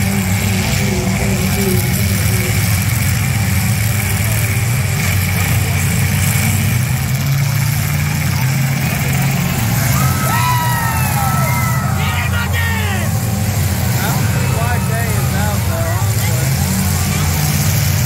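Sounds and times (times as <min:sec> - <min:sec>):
car engines rumbling: 0:00.0 - 0:18.0.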